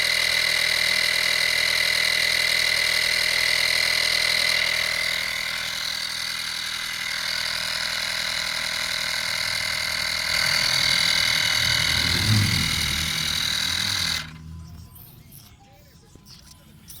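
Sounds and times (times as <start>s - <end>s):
air compressor whining: 0.0s - 15.5s.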